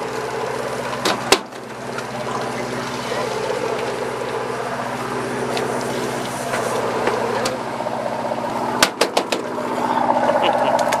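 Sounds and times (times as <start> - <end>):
boat engine humming: 0.0 - 11.0
water wash: 0.0 - 11.0.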